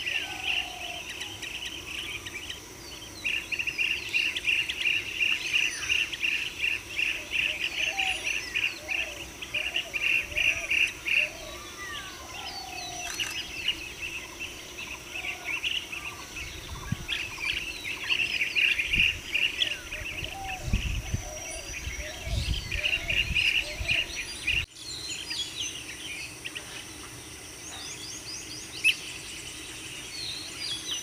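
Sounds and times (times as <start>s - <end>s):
birds chirping: 0.0s - 31.0s
high insect drone: 0.0s - 31.0s.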